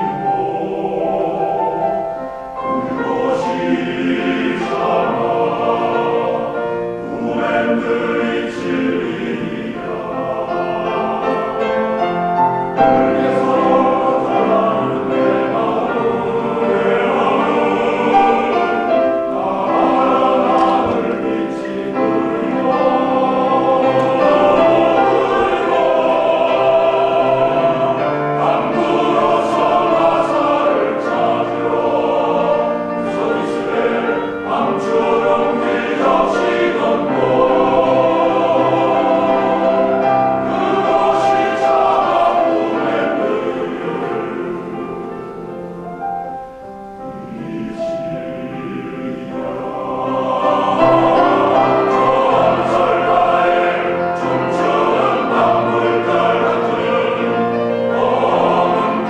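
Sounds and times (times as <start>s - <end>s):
men's choir singing: 0.0s - 59.0s.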